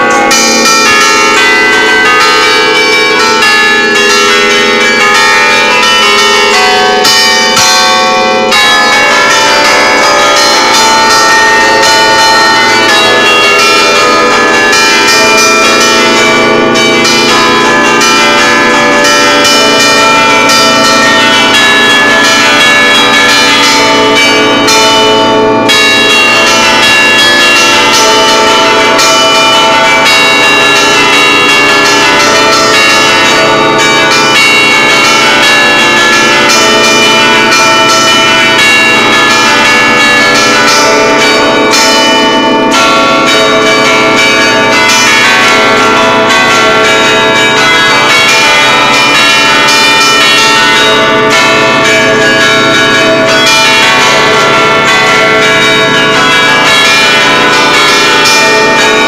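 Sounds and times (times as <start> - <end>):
church bells ringing a tune: 0.0 - 59.0.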